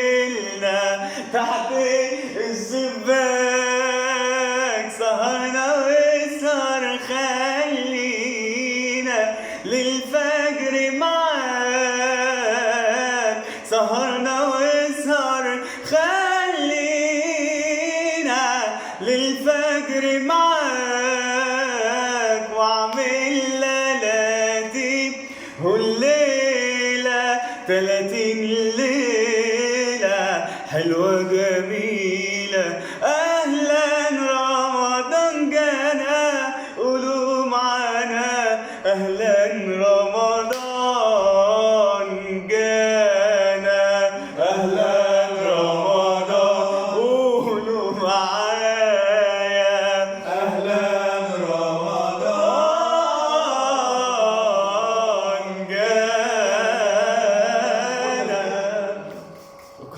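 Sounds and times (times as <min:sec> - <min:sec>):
man singing wordless melody: 0:00.0 - 0:59.9.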